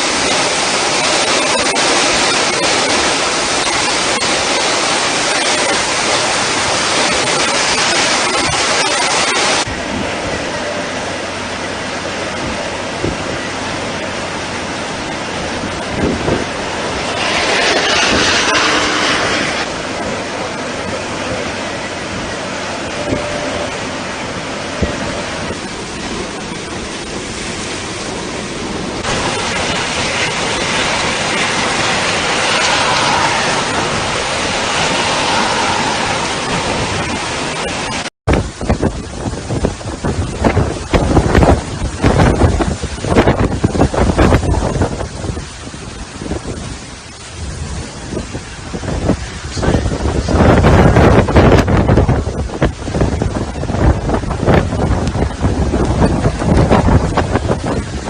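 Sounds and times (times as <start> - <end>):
hurricane wind: 0.0 - 58.0
rushing water: 0.0 - 58.0.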